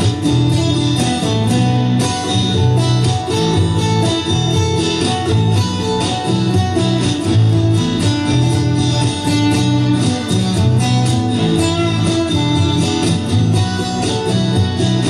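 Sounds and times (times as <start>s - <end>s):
acoustic guitar strumming: 0.0s - 15.0s
looped guitar parts: 0.0s - 15.0s.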